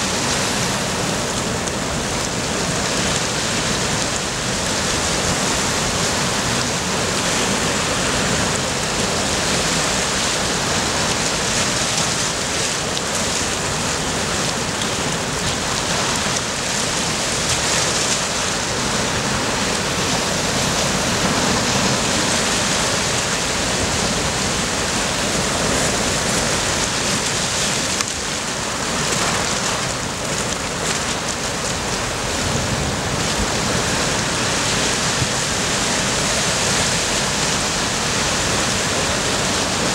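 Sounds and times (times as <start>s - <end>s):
surf breaking on rocks: 0.0s - 39.9s.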